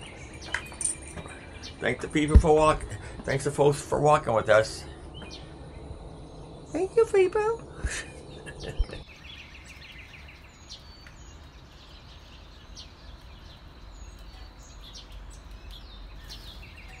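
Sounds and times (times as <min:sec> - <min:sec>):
low background rumble: 0:00.0 - 0:17.0
small birds chirping and singing: 0:00.0 - 0:17.0.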